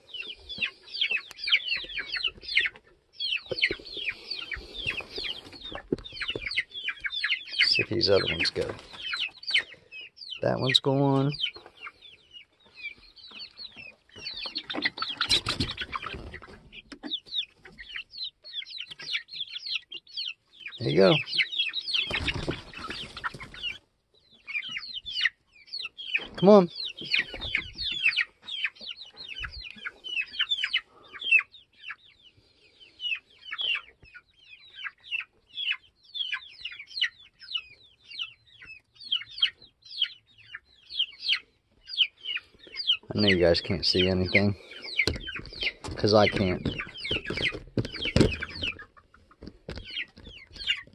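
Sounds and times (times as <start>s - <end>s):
chickens chirping and peeping: 0.0s - 50.9s
chickens rustling and scuffling: 0.0s - 50.9s.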